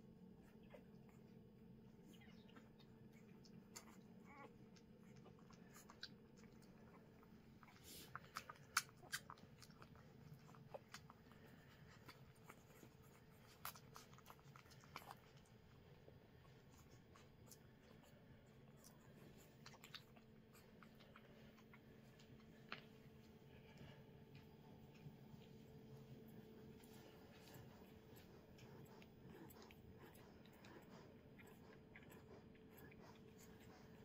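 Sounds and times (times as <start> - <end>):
puppies suckling wet clicks: 0.2 - 34.0.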